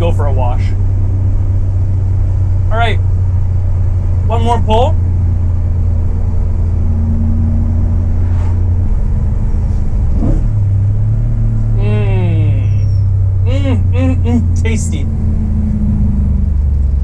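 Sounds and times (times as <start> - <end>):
car engine drone inside cabin: 0.0 - 17.0.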